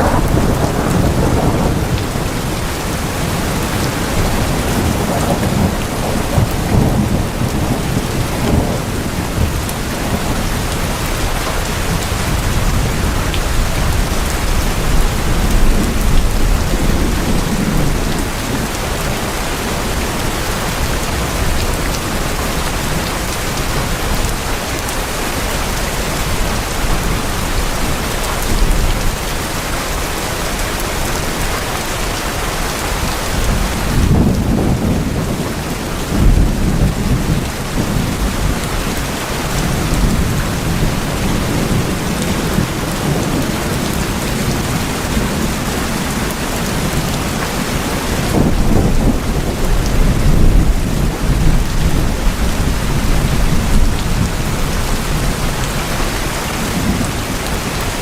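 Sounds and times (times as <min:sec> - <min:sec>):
thunder rumbling: 0:00.0 - 0:29.5, 0:33.0 - 0:58.0
heavy rain on tin roofs: 0:00.0 - 0:58.0.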